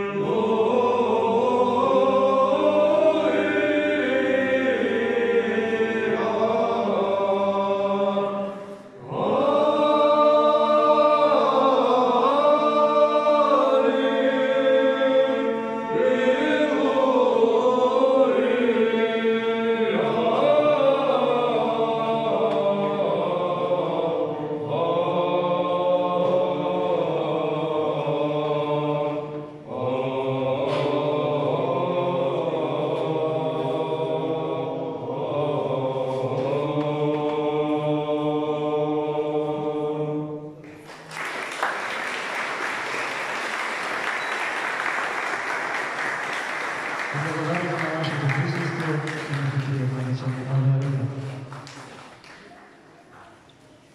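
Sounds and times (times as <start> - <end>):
men's choir chanting a cappella: 0.0 - 40.6, 42.3 - 51.6.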